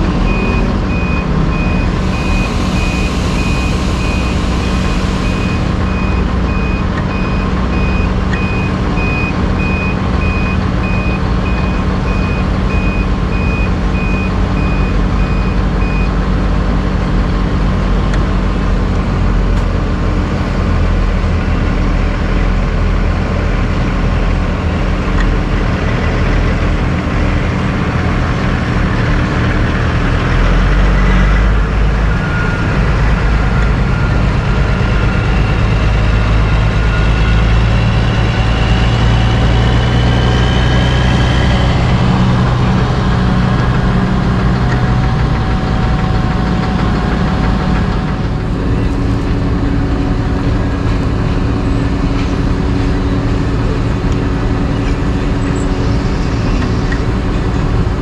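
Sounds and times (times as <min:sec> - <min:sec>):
dump truck driving past: 0:00.0 - 0:58.0
heavy diesel engines running: 0:00.0 - 0:58.0.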